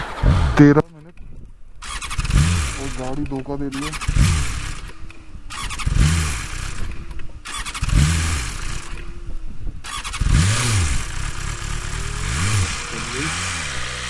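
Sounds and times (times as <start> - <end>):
motorcycle engine revving: 0.0 - 0.9, 1.8 - 14.0.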